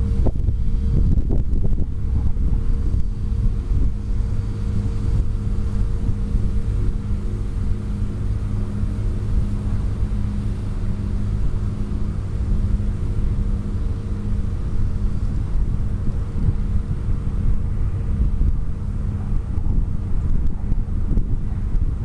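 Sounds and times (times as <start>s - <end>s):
steady droning hum: 0.0s - 22.0s.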